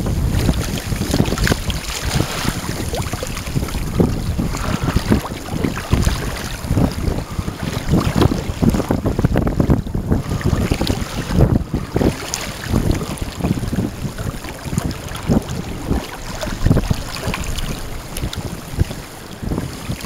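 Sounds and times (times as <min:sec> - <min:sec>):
small waves lapping: 0:00.0 - 0:20.0
wind buffeting microphone: 0:00.0 - 0:20.0.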